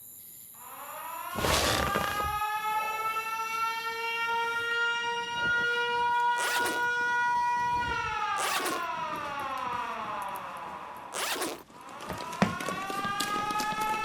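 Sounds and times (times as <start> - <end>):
air-raid siren wailing: 0.6 - 14.0.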